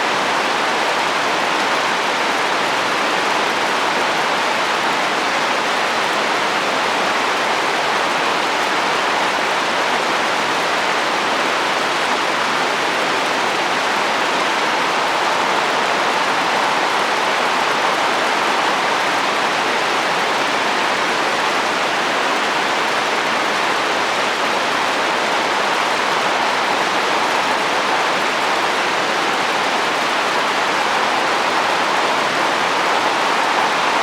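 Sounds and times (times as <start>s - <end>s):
rain on a roof: 0.0s - 34.0s.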